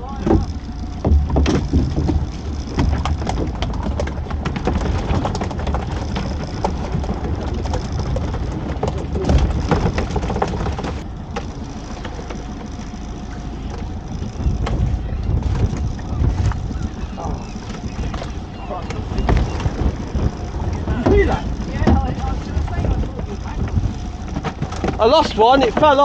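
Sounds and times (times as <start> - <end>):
water splashing against boat: 0.0 - 26.0
wind rumbling on microphone: 0.0 - 26.0
small clicks and knocks: 0.1 - 26.0.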